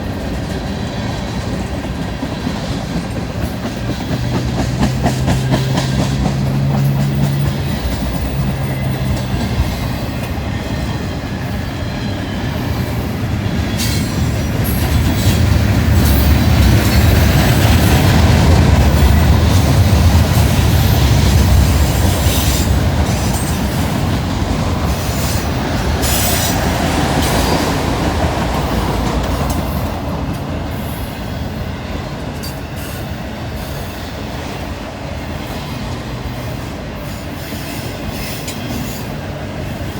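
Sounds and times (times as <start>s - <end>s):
deep train rumble: 0.0s - 39.9s.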